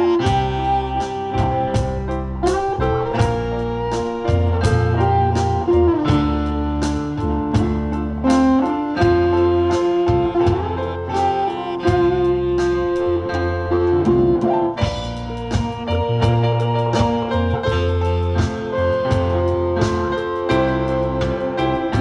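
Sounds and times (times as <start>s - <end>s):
lead instrument bent sliding notes: 0.0s - 22.0s
live band playing pop tune: 0.0s - 22.0s.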